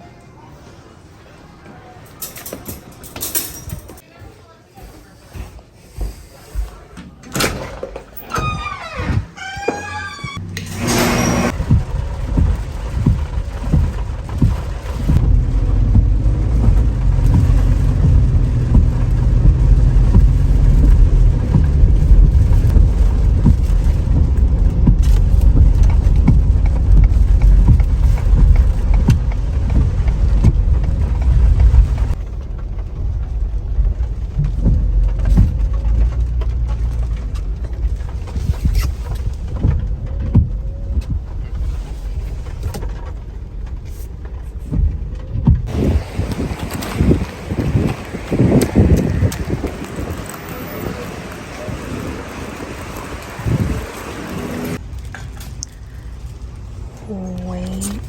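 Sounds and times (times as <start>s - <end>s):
car road rumble: 8.4s - 58.0s.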